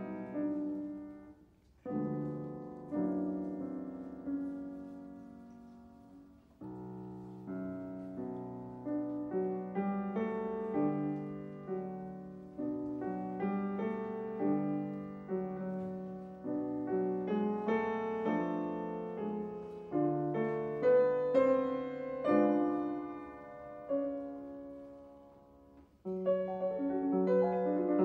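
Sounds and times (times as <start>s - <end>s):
slow gentle piano music: 0.0s - 28.0s.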